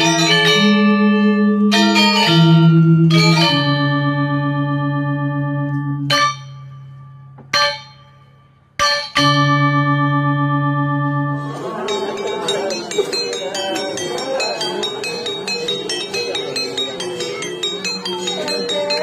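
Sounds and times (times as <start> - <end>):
deep bell-like metallic tones: 0.0 - 19.0.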